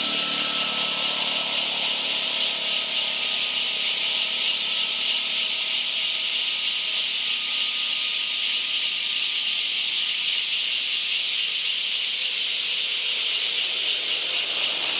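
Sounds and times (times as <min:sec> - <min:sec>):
cicadas chorus buzzing: 0:00.0 - 0:14.9.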